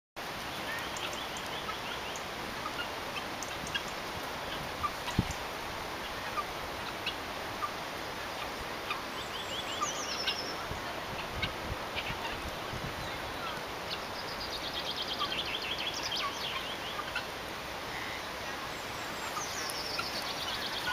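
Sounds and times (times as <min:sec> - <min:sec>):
steady outdoor hiss: 0:00.2 - 0:20.9
birds calling: 0:00.4 - 0:20.9.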